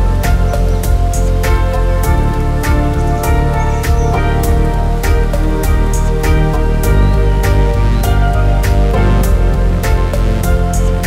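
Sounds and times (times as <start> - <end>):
held synth notes: 0.0 - 11.0
low bass: 0.0 - 11.0.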